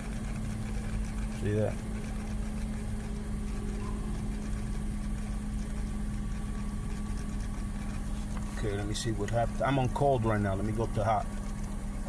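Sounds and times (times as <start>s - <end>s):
heater blower running: 0.0s - 12.0s
van engine idling: 0.0s - 12.0s.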